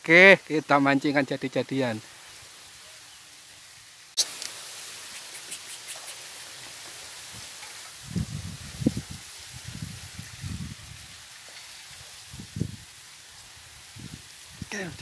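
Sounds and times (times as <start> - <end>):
open-air hiss: 0.0 - 15.0.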